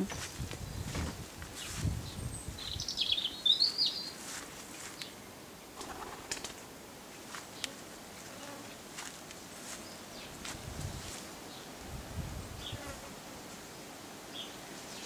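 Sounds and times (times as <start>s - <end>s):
songbird chirping: 0.0s - 11.8s, 13.7s - 15.0s.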